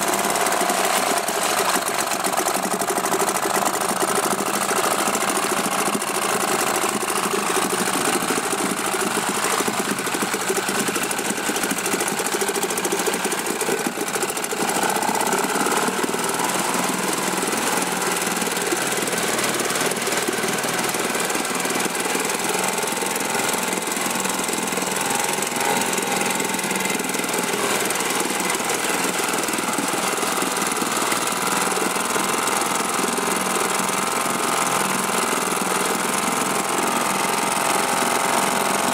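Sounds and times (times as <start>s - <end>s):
outboard engine running: 0.0s - 38.9s
propeller churning water: 0.0s - 38.9s.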